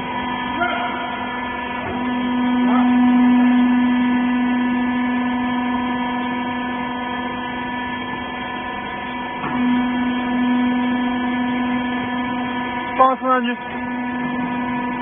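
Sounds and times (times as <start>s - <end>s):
hydraulic pump humming: 0.0s - 15.0s.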